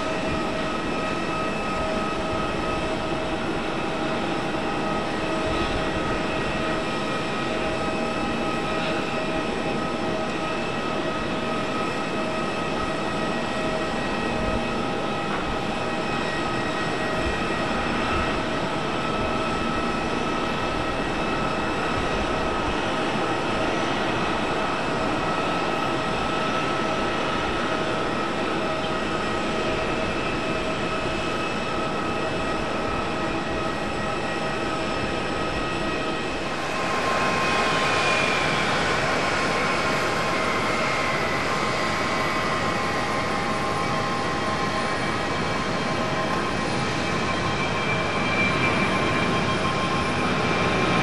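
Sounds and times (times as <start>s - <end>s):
jet engines rushing: 0.0s - 51.0s.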